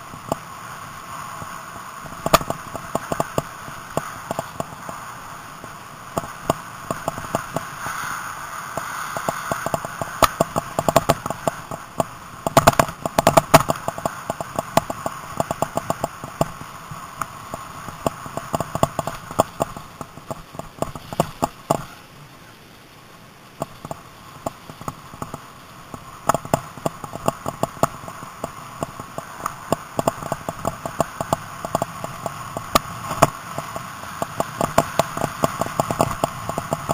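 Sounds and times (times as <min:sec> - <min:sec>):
bike rattles and knocks: 0:02.0 - 0:05.0, 0:06.1 - 0:08.1, 0:08.7 - 0:22.0, 0:23.6 - 0:36.9.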